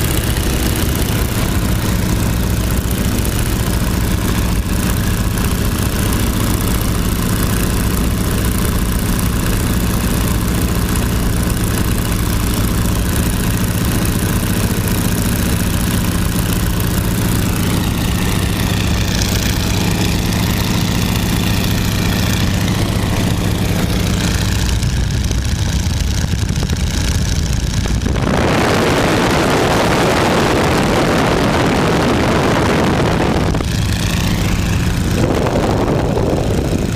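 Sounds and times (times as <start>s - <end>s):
biplane radial engine running: 0.0s - 36.9s.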